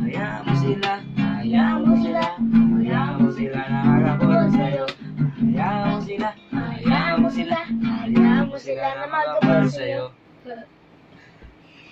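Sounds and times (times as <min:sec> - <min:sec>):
acoustic guitar strumming: 0:00.0 - 0:10.1
boys singing: 0:00.0 - 0:10.2.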